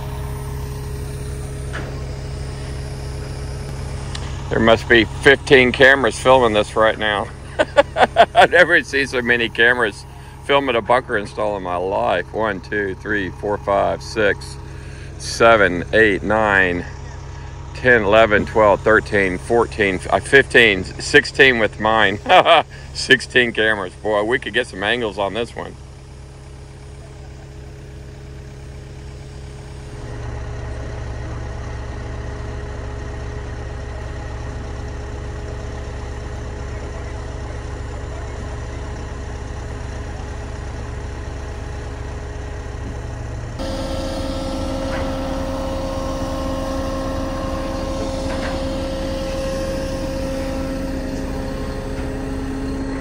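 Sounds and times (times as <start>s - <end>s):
heavy crane engine running: 0.0s - 53.0s.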